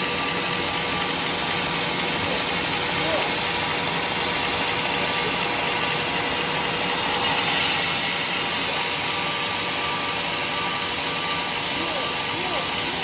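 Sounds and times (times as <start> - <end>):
sawmill machinery droning: 0.0 - 13.0.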